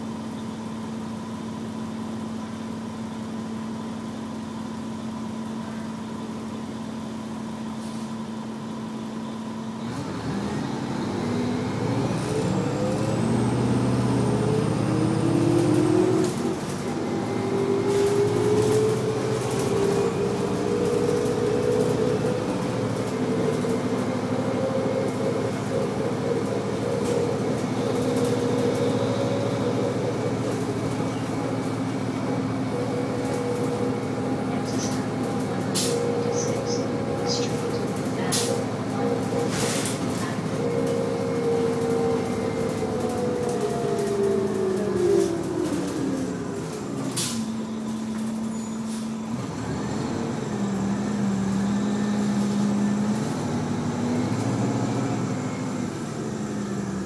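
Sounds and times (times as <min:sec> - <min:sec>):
bus engine idling and revving: 0:00.0 - 0:57.0.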